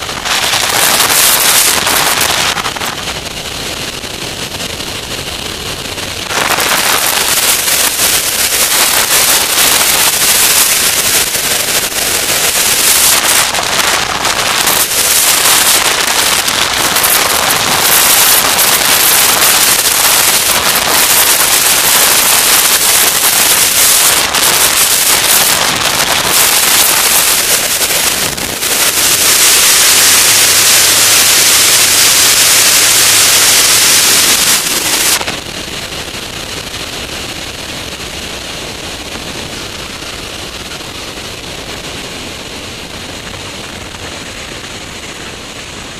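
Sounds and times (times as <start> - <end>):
airflow buffeting camera: 0.0 - 45.7.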